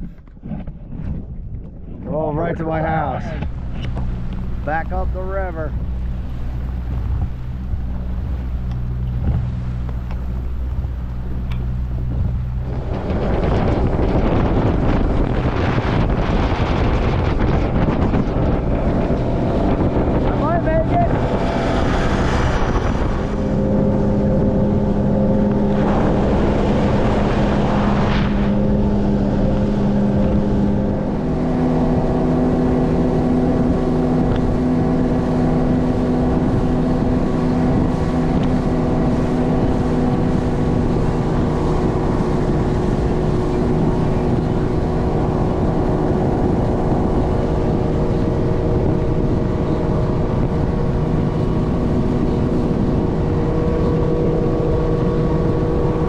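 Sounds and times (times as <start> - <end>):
motorboat engine running: 0.0 - 56.0.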